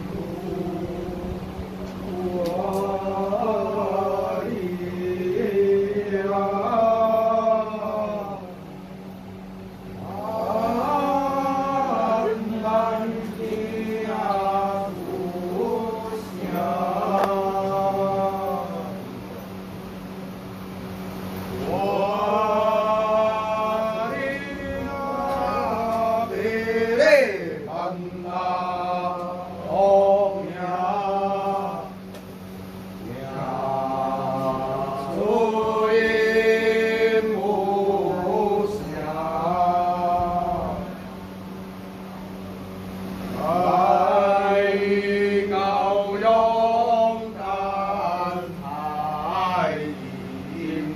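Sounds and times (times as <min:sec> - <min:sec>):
ritual chant: 0:00.0 - 0:50.9
steady low hum: 0:00.0 - 0:50.9.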